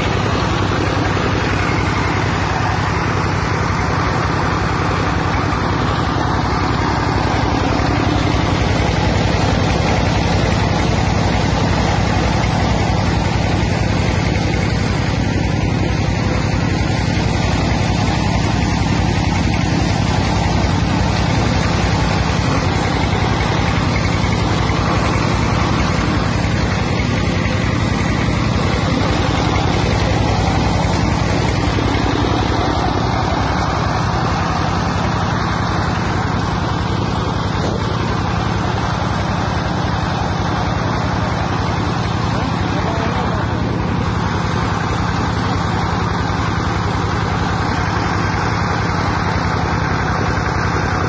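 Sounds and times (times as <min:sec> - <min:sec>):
engine droning: 0:00.0 - 0:51.0
grinding machine rushing noise: 0:00.0 - 0:51.0.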